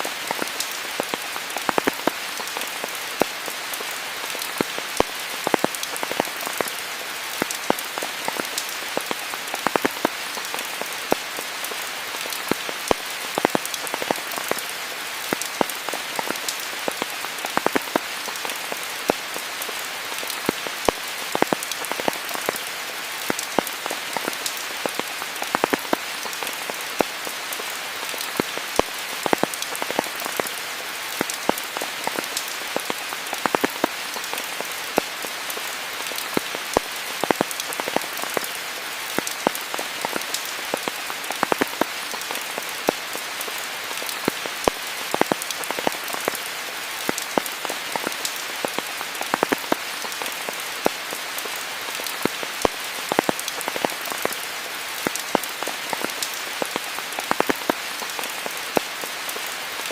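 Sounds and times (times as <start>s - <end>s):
raindrops striking surfaces: 0.0s - 59.9s
steady rain hiss: 0.0s - 59.9s.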